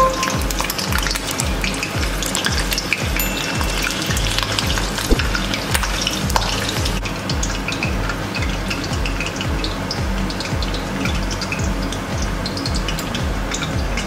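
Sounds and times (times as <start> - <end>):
background music with steady beat: 0.0 - 14.0
hot oil sizzling and crackling: 0.1 - 14.0.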